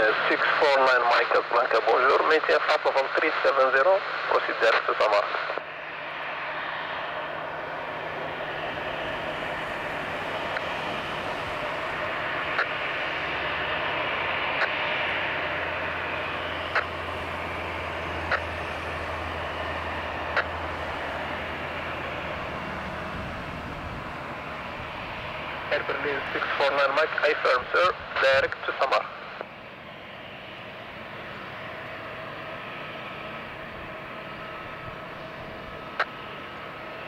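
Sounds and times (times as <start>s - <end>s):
jet engines at low power: 0.0s - 37.0s
low hum: 0.1s - 37.0s.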